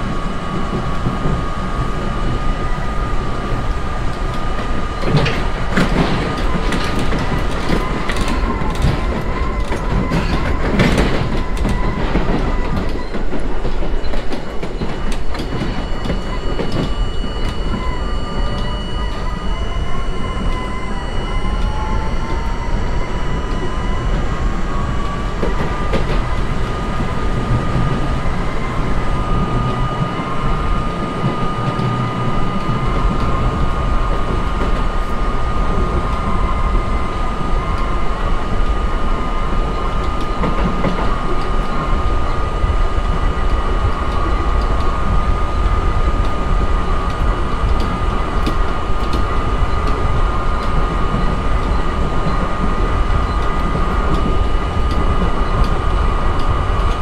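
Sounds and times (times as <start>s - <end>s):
subway train wheels rumbling on track: 0.0s - 57.0s
traction motors whining: 0.0s - 57.0s.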